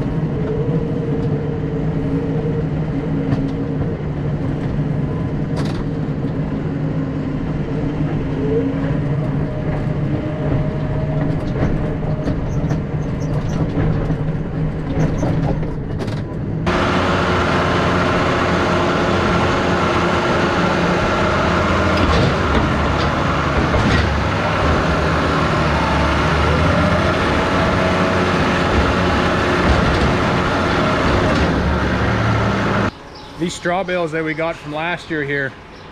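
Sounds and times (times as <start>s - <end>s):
tractor engine running: 0.0s - 35.9s.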